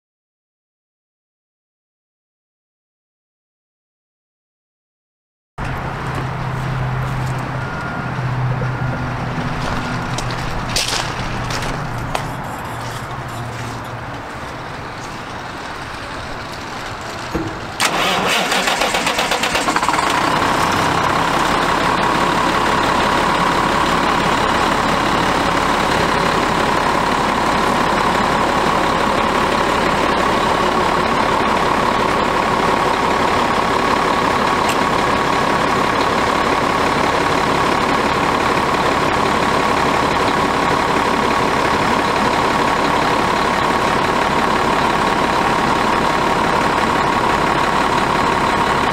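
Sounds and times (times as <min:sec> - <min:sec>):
diesel engine cranking: 0:05.6 - 0:48.9
diesel engine idling: 0:05.6 - 0:48.9.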